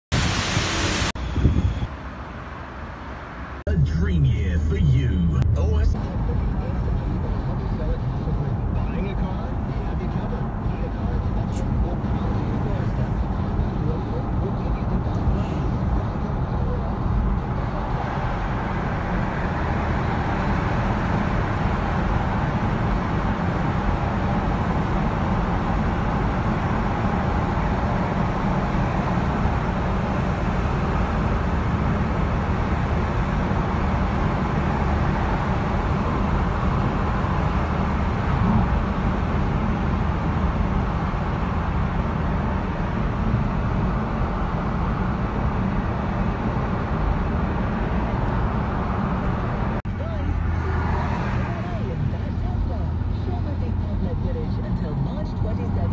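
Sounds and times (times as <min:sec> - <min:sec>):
car road noise in tunnel: 0:00.1 - 0:03.8, 0:04.8 - 0:55.9.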